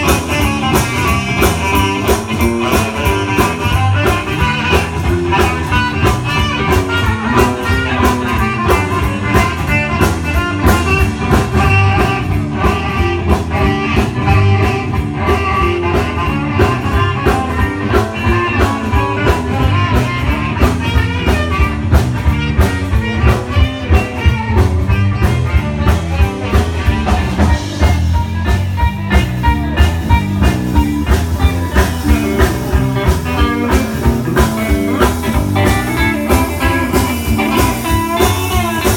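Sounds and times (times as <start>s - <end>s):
electric guitar: 0.0s - 38.9s
live band playing: 0.0s - 38.9s.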